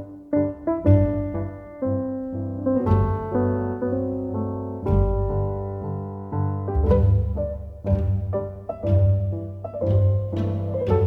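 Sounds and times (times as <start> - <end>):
slow piano and strings music: 0.0 - 11.0.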